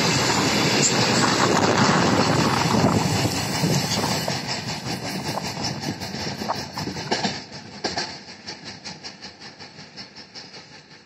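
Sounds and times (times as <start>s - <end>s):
train wheels clattering over rail joints: 0.0s - 11.0s.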